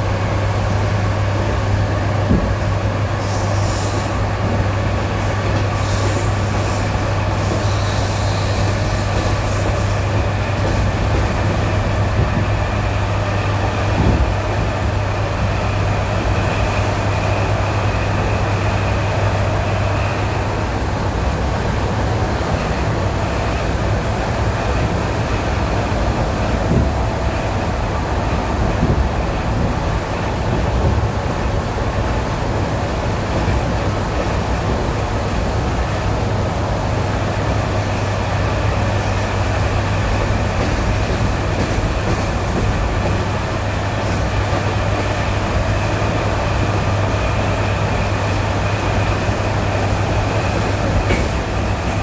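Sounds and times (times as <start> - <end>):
train rumbling on track: 0.0 - 52.0.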